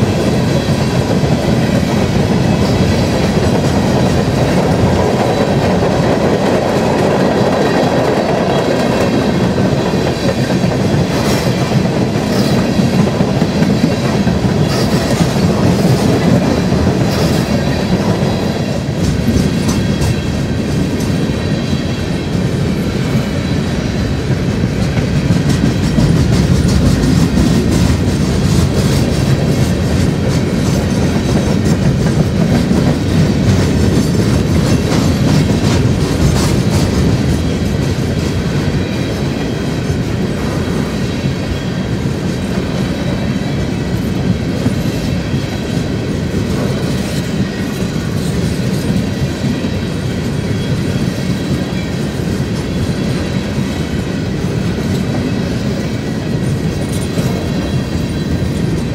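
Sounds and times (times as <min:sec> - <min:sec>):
train cars rumbling past: 0:00.0 - 0:58.9
train wheels clacking: 0:00.0 - 0:58.9.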